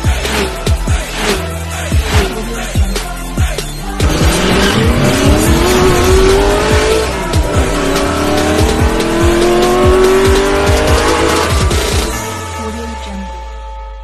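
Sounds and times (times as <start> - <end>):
car engine revving: 0.0 - 3.0, 3.8 - 13.5
music with steady beat: 0.0 - 14.0.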